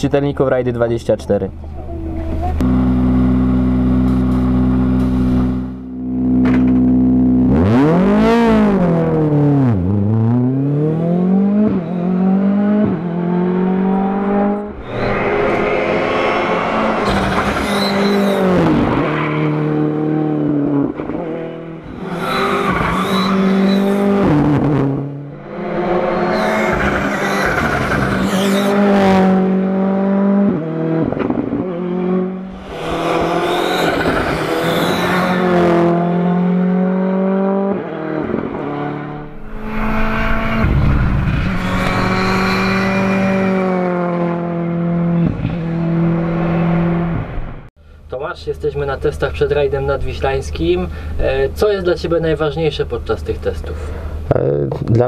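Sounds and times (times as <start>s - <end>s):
rally car engines passing: 1.9s - 47.6s.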